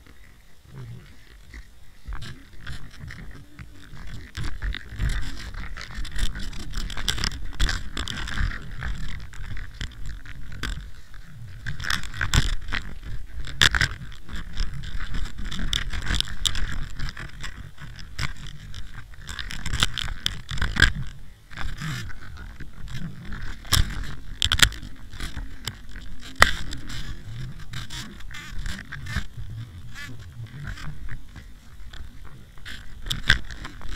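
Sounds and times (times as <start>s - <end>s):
muffled underwater rumble: 0.0s - 33.9s
knocks clicks and scrapes: 1.2s - 33.9s.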